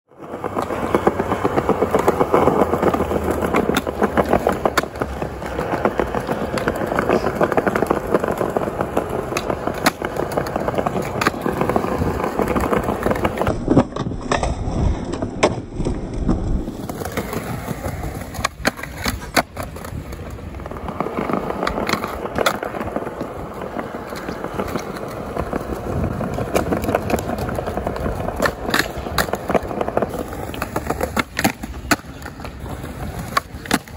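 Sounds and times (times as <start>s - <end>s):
skateboard clacks: 0.1s - 33.9s
skateboard wheels rolling on tiles: 0.1s - 33.9s
skateboard scraping on metal rail: 0.2s - 33.9s.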